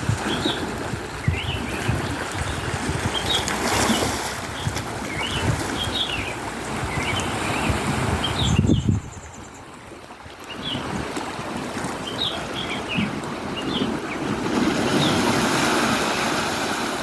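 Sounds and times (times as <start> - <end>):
sea water lapping: 0.0 - 17.0
wind buffeting microphone: 0.0 - 17.0.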